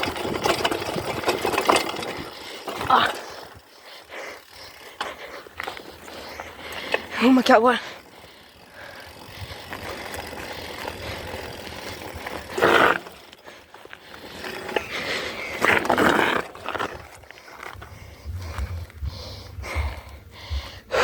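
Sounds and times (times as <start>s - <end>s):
bike rattling: 0.0s - 21.0s
bike tyres on dirt: 0.0s - 21.0s.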